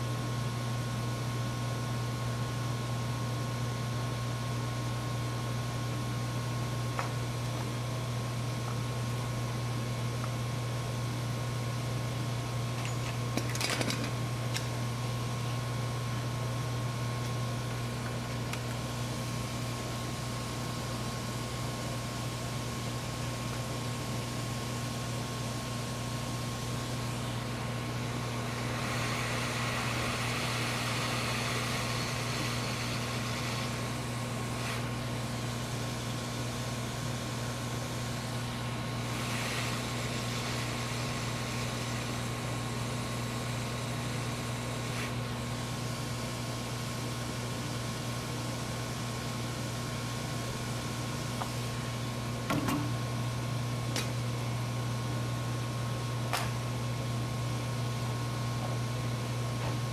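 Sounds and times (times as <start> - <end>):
electrical hum and fan noise: 0.0 - 59.9.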